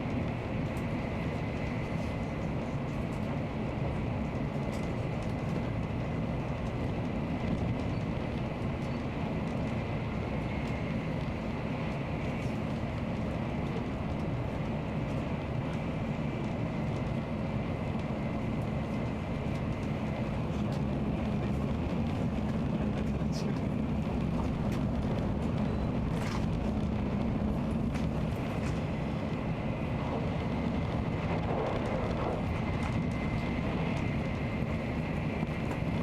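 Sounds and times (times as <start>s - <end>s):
train rumbling at speed: 0.0s - 36.0s.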